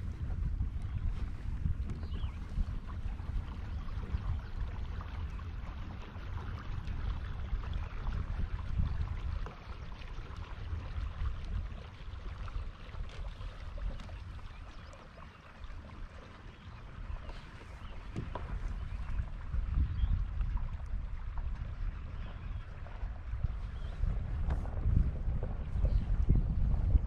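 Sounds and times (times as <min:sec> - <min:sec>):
water lapping against hull: 0:00.0 - 0:27.0
wind buffeting microphone: 0:00.0 - 0:27.0.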